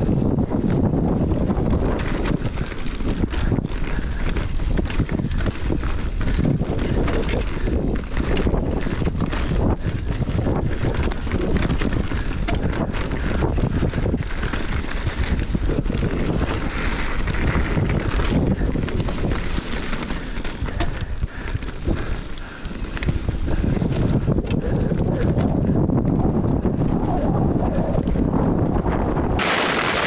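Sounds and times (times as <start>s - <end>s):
bike rattling over stones: 0.0s - 25.8s, 29.4s - 30.0s
bike tyres rumbling on dirt: 0.0s - 30.0s
wind buffeting microphone: 0.0s - 30.0s.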